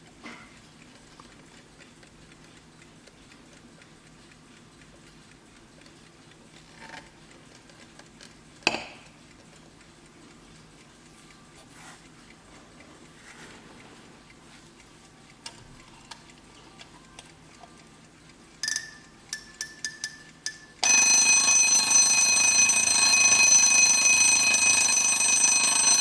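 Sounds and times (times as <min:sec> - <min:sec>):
alarm clock ticking quietly: 0:00.0 - 0:26.0.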